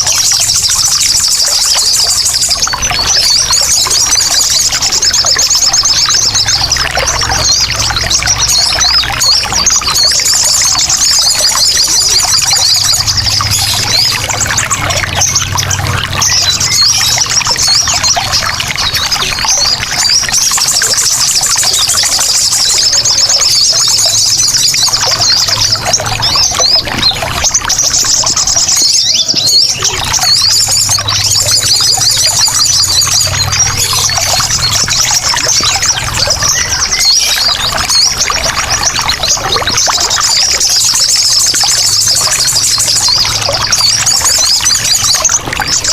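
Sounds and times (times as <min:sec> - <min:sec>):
birds chattering: 0:00.0 - 0:45.9
trickling water: 0:00.0 - 0:45.9.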